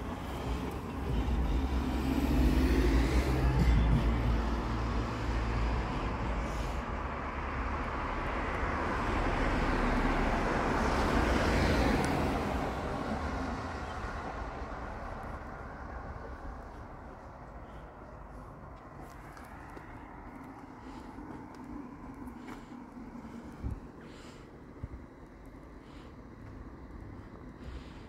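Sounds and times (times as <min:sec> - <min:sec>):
vehicle passing by: 0:00.0 - 0:24.4.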